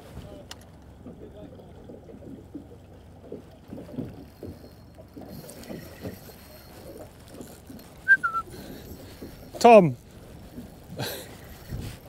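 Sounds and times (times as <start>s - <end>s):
water slapping against boat hull: 0.0s - 11.0s.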